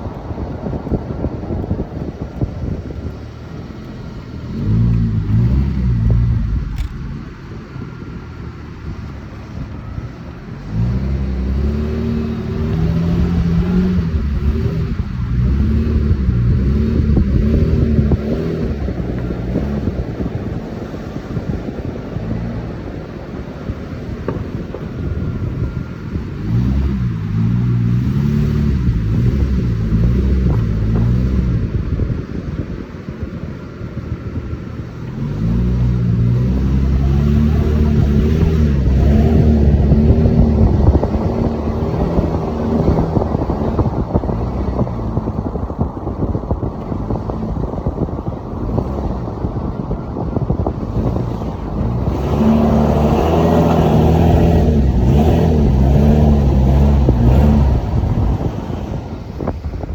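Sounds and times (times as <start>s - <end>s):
car engine revving while driving: 0.0s - 59.9s.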